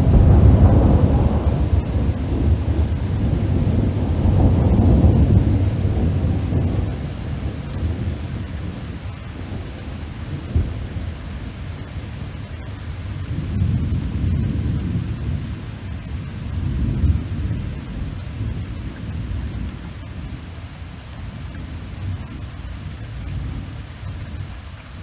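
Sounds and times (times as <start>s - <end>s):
rain hiss: 0.0s - 25.0s
rolling thunder rumble: 0.0s - 25.0s.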